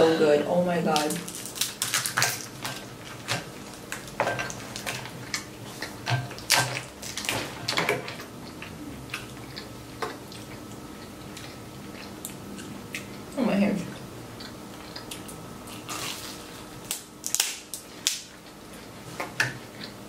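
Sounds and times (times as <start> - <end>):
chewing: 1.8 - 16.8, 18.2 - 20.0.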